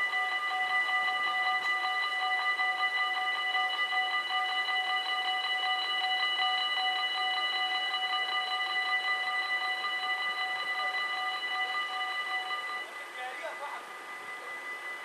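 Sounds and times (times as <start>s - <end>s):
level crossing bell ringing: 0.0s - 12.9s.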